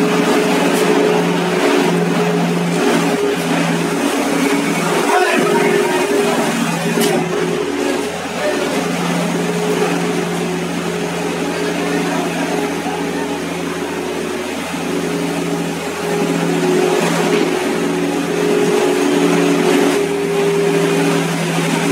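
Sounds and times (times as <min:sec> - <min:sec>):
small engine droning: 0:00.0 - 0:21.9.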